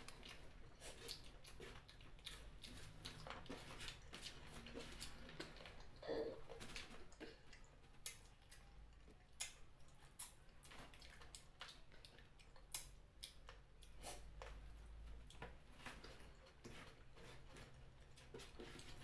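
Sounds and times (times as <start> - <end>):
person chewing wetly: 0.0 - 19.0.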